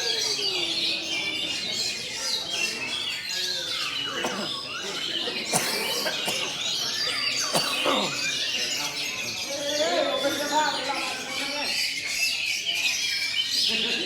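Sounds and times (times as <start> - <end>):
songbirds chorus: 0.0 - 14.0.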